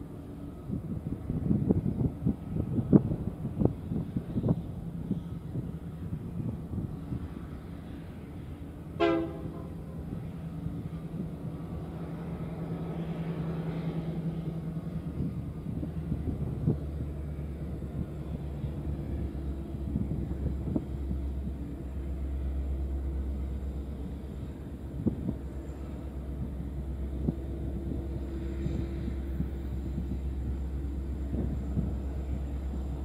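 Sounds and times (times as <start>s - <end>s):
distant diesel locomotives droning: 0.0s - 33.0s.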